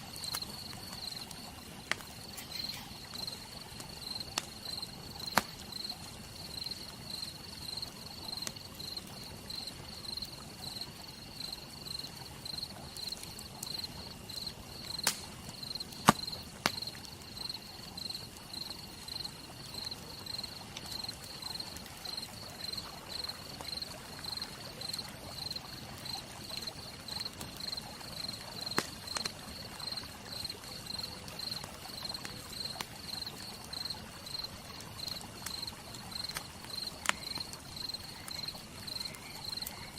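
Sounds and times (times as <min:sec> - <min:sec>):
campfire crackling with pops: 0:00.0 - 0:39.9
cricket chirping: 0:00.0 - 0:39.9
soft steady hiss: 0:00.0 - 0:39.9.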